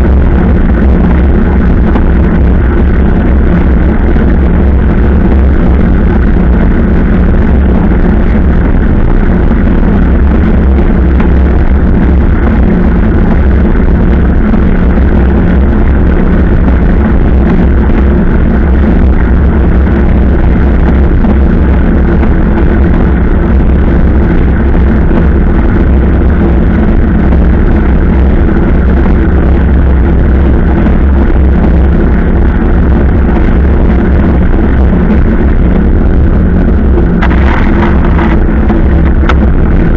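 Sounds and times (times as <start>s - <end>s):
motorcycle engine drone: 0.0s - 39.9s
wind rumble on microphone: 0.0s - 39.9s.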